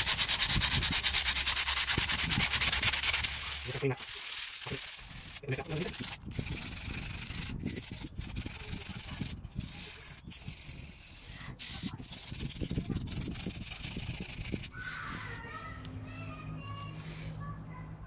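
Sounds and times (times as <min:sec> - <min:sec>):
sandpaper rubbing on steel: 0:00.0 - 0:15.4.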